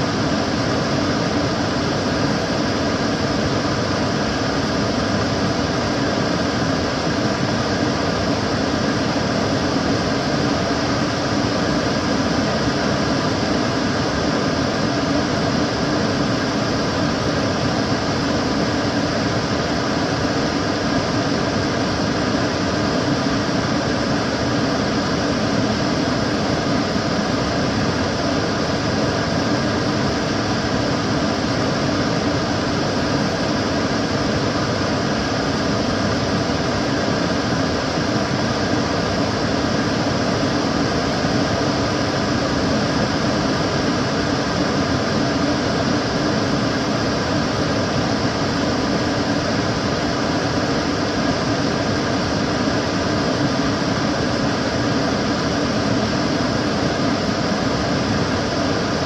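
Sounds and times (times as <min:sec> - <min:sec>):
extractor fan whooshing: 0:00.0 - 0:59.0
faint constant hum: 0:00.0 - 0:59.0.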